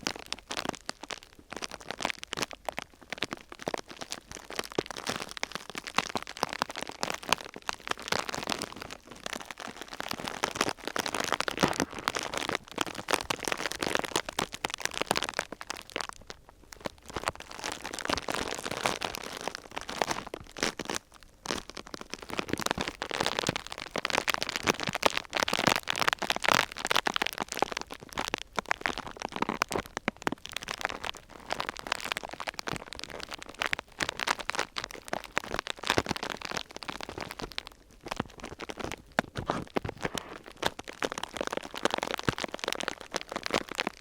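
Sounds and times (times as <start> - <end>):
plastic sheet crinkling: 3.7 - 44.0.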